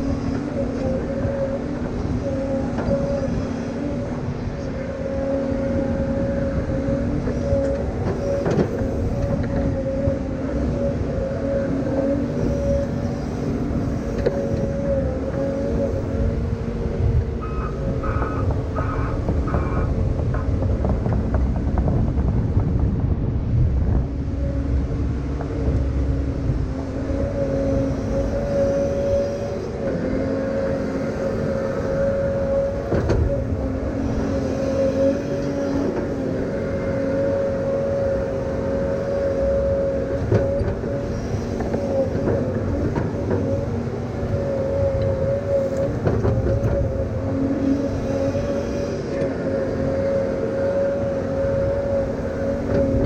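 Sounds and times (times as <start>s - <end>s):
heavy diesel machine droning: 0.0s - 53.0s
machine whine: 0.0s - 53.0s.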